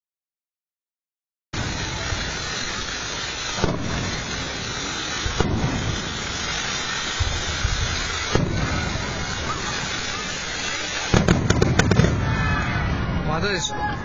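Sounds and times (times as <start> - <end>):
firework bangs: 1.6 - 14.0
fireworks crackling: 1.6 - 14.0.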